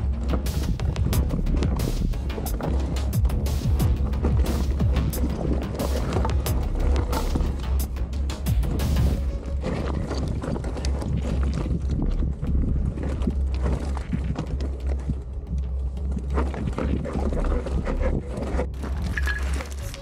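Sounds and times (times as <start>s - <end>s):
bike rattling and clattering: 0.0s - 20.0s
tyres crunching over stones: 0.0s - 20.0s
wind rumble on microphone: 0.0s - 20.0s.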